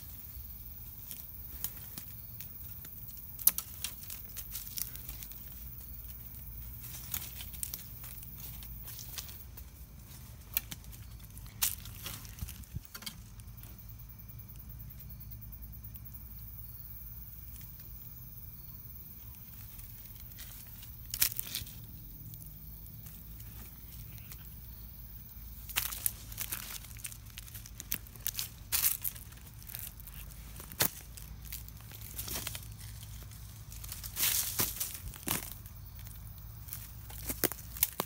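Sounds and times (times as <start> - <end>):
dry leaves and twigs crunching: 0.0 - 15.4, 16.3 - 38.0
steady low rumble: 0.0 - 38.0.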